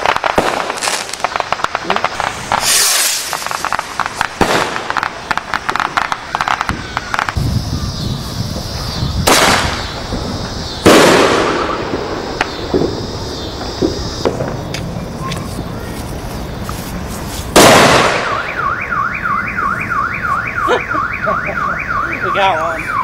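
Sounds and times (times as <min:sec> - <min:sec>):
fireworks crackling pops: 0:00.0 - 0:18.7
fireworks booms: 0:00.0 - 0:19.8.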